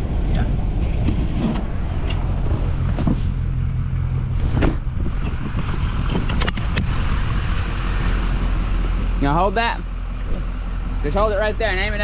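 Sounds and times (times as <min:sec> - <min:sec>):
diesel pickup engine rumbling: 0:00.0 - 0:12.0.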